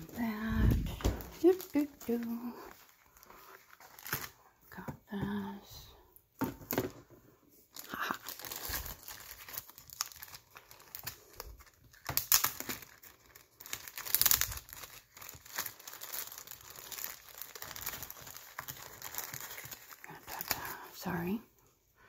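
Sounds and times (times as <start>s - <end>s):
plastic bags crinkling: 0.0s - 4.9s, 7.7s - 21.4s.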